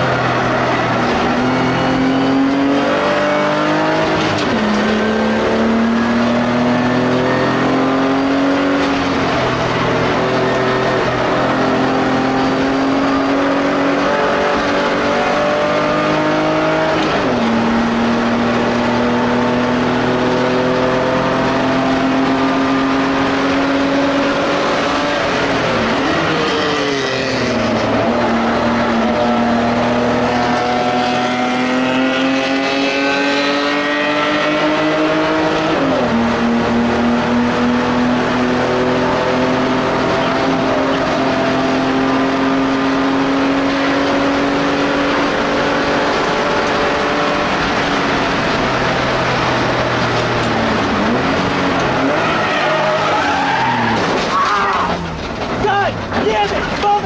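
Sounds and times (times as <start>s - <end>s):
race car engine at racing load: 0.0s - 57.0s.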